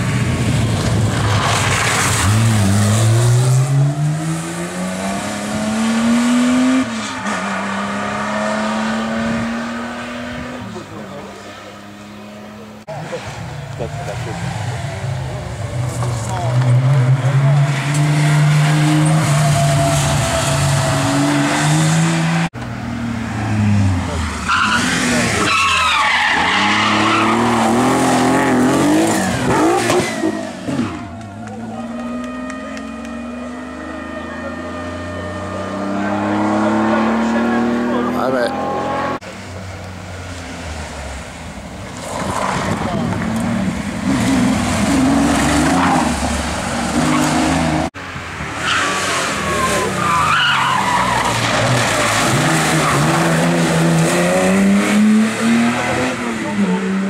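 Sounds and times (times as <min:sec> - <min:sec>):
car engine accelerating: 0:00.0 - 0:39.9, 0:48.7 - 0:57.0.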